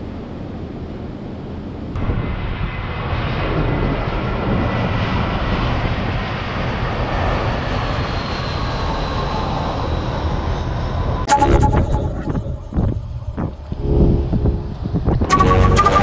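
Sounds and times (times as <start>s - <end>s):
jet airliner engines rumbling: 0.0s - 16.0s
wind: 0.0s - 16.0s.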